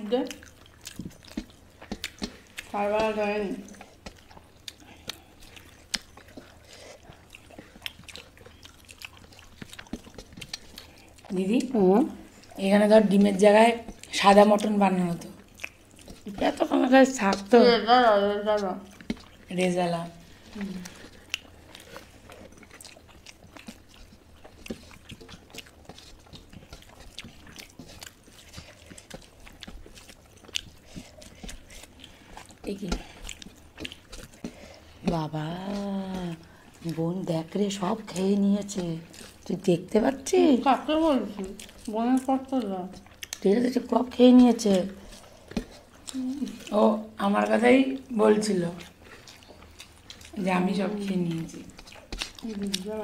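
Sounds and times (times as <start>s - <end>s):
wet mouth chewing sounds: 0.0s - 53.0s.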